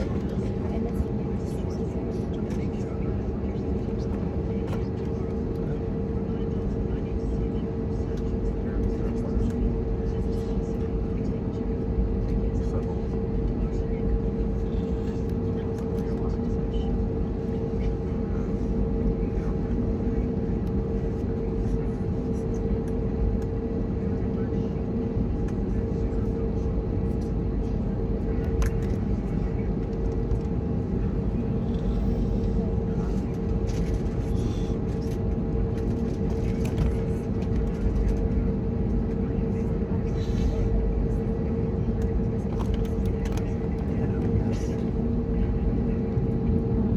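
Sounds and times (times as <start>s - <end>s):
aircraft cabin engine rumble: 0.0s - 46.9s
engine whine: 0.0s - 46.9s
mid-pitched hum: 0.0s - 46.9s.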